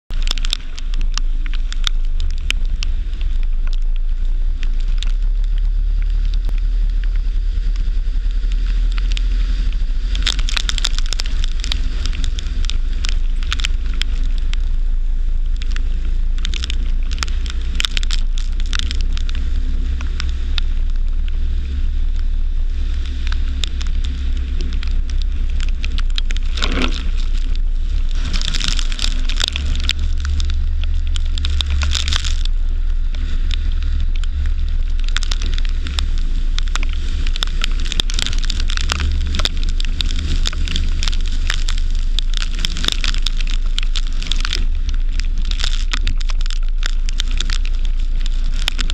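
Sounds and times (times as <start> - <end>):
car rumbling inside cabin: 0.0 - 48.9.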